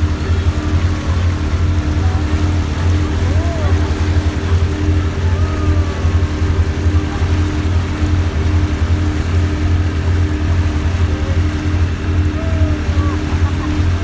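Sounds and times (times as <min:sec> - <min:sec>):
boat engine humming: 0:00.0 - 0:14.0
gulls calling: 0:00.0 - 0:14.0.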